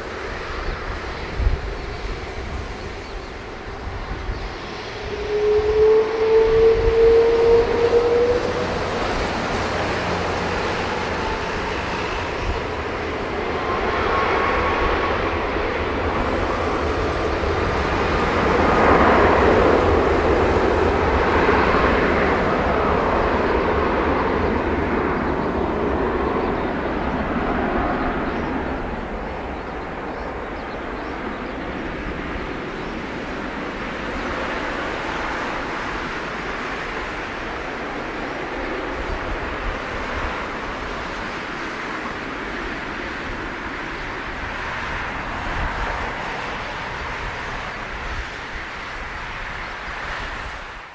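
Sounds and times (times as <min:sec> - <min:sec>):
jet engines roaring at takeoff: 0:00.0 - 0:50.9.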